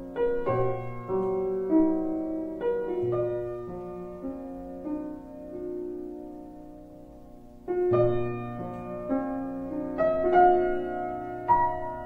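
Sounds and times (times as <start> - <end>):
slow gentle piano: 0.0 - 12.0.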